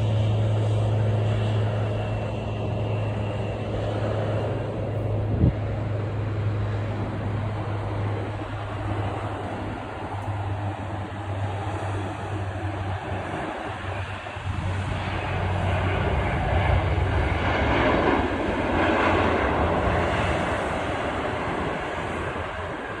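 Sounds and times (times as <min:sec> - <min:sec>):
airliner engines taxiing: 0:00.0 - 0:23.0.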